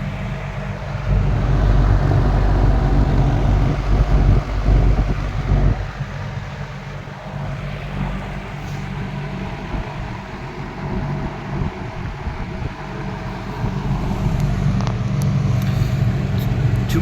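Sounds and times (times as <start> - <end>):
box fan running: 0.0 - 17.0.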